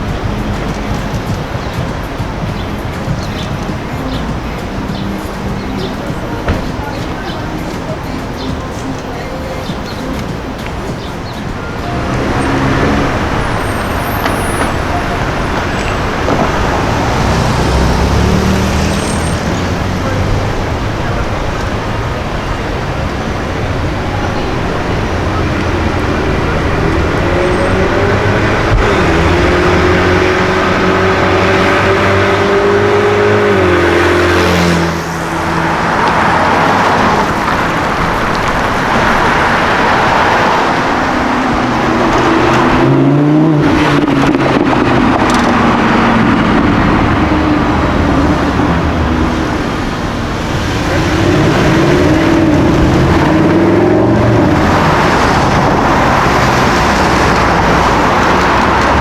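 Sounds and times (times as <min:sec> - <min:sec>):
engine revving: 0:00.0 - 0:59.0
sports car engines accelerating: 0:00.0 - 0:59.0.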